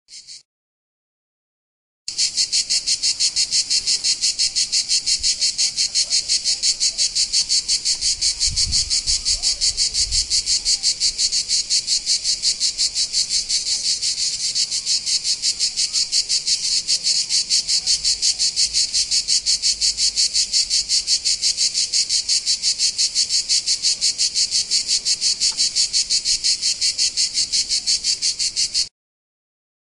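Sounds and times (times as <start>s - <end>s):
cicada buzzing: 0.1s - 0.4s, 2.1s - 28.9s.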